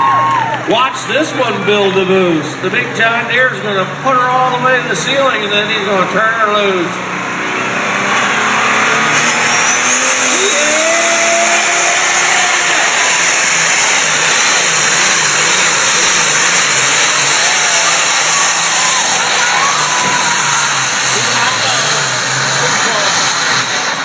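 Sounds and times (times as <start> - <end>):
diesel tractor engine at full power: 0.0 - 24.0
high turbo whine: 0.0 - 24.0.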